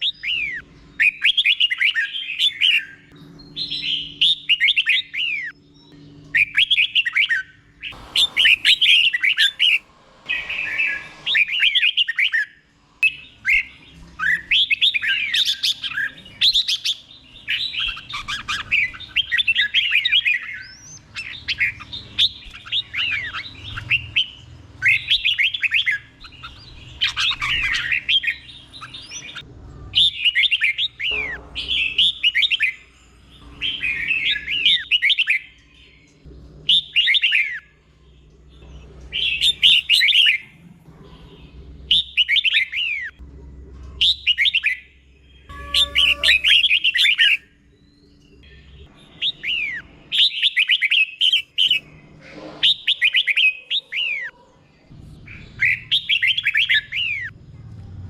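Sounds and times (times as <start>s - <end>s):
bulbul singing: 0.0s - 43.2s, 44.0s - 51.9s.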